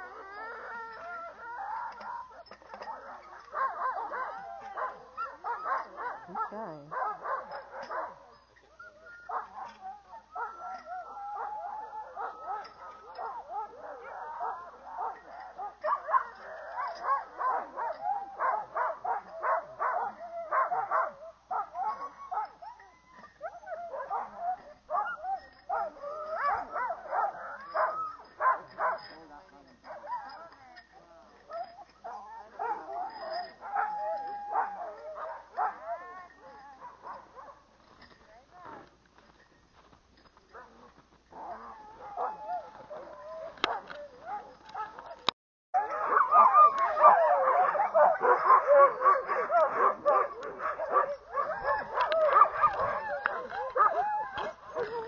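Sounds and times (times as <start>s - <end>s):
huskies yipping and whining: 0.0s - 55.0s.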